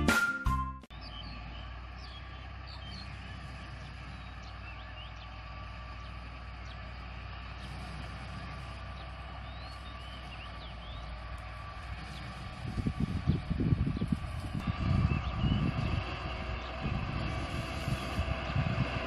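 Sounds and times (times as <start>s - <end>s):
distant diesel engine droning: 0.0s - 19.0s
small birds chirping: 0.9s - 19.0s.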